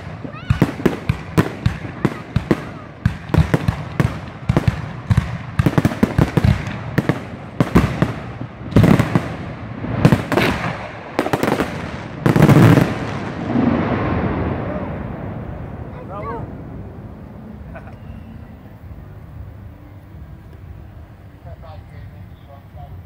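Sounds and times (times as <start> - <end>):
heavy firework boom: 0.0 - 19.5.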